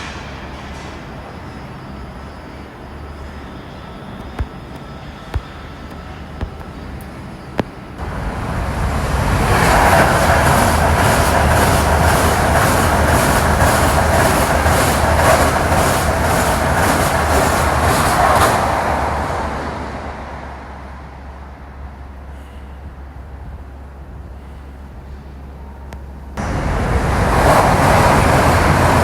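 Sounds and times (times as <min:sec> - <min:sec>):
rhythmic train wheel clatter: 0:00.0 - 0:19.9, 0:23.2 - 0:29.0
train rushing past: 0:00.0 - 0:24.2, 0:25.0 - 0:29.0.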